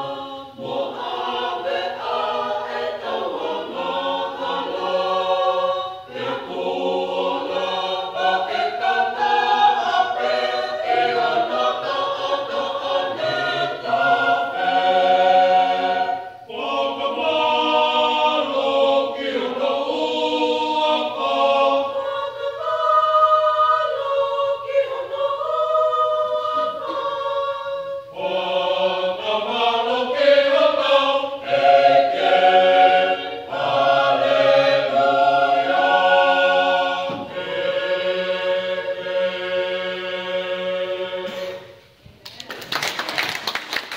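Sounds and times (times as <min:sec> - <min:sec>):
mixed choir singing unaccompanied: 0:00.0 - 0:41.8.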